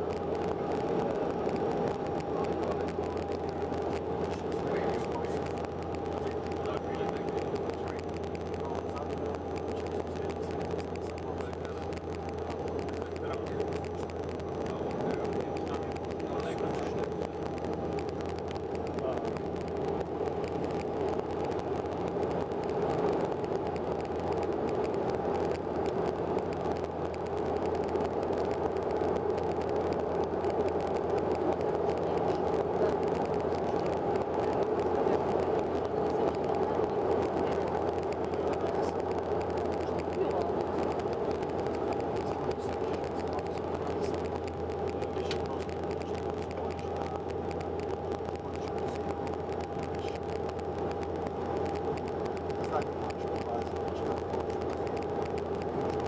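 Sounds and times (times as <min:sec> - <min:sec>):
propeller aircraft cabin drone: 0:00.0 - 0:56.0.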